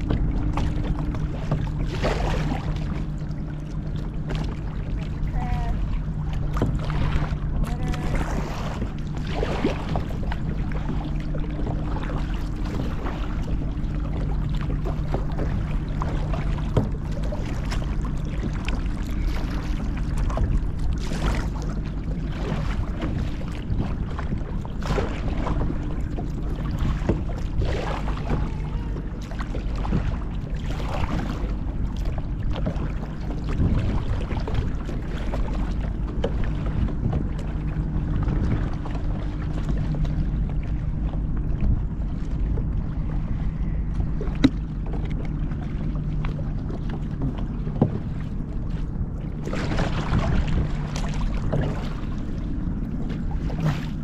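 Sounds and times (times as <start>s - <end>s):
paddle splashing in water: 0.0s - 54.0s
wind rumbling on microphone: 0.0s - 54.0s.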